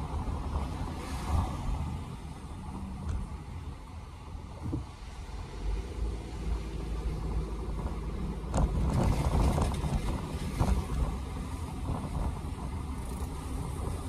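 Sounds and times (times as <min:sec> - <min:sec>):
low road rumble: 0:00.0 - 0:14.0.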